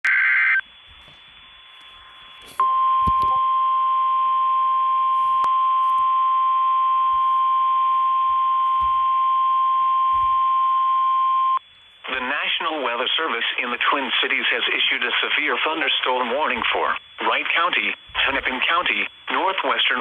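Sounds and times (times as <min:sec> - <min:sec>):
steady high alarm tone: 0:00.5 - 0:20.0.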